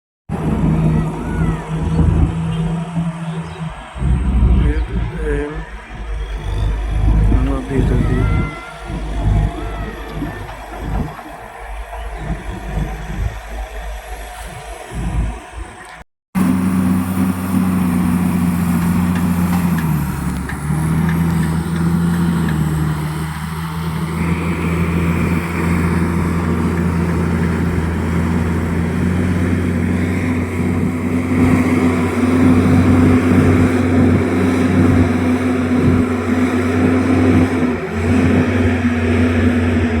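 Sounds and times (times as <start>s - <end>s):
bulldozer diesel engine running: 0.3s - 40.0s.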